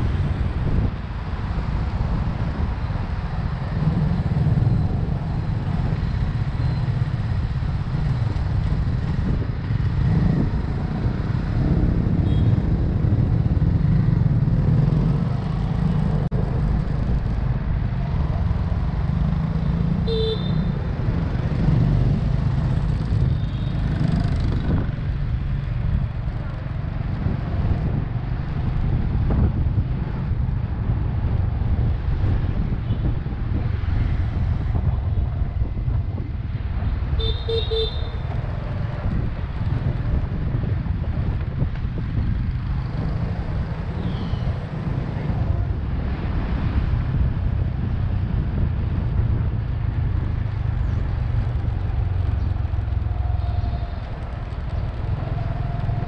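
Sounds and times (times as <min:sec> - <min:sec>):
wind buffeting microphone: 0:00.0 - 0:19.6, 0:20.7 - 0:37.4, 0:38.2 - 0:56.0
traffic: 0:00.0 - 0:56.0.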